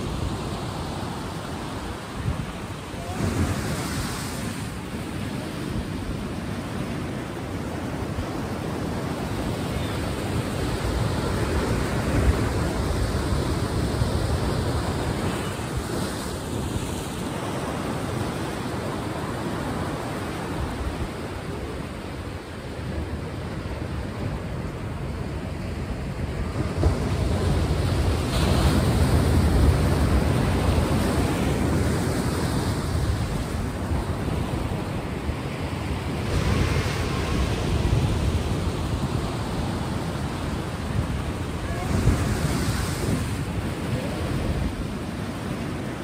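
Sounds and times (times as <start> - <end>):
sea waves washing: 0.0 - 46.0.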